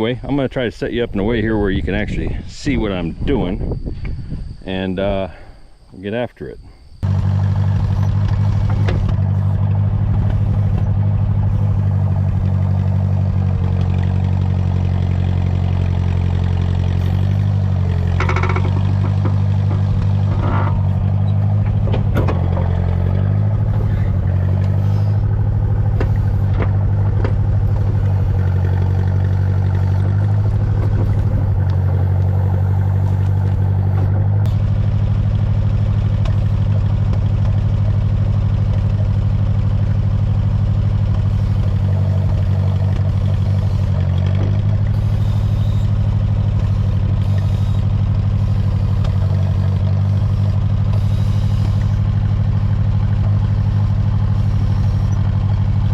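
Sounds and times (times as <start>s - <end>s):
backhoe engine running: 7.0s - 55.9s.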